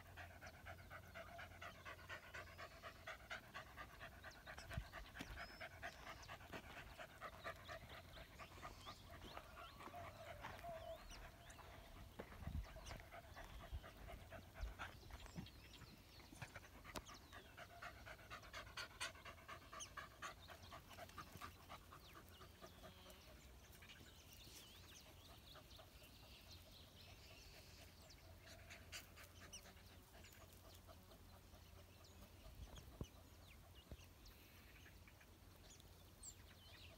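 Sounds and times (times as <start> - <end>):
faint dogs baying: 0.0 - 36.9.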